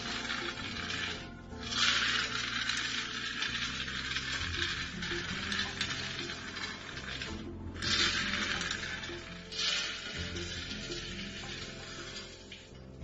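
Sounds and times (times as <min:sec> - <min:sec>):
coffee beans tumbling in roaster: 0:00.0 - 0:13.0.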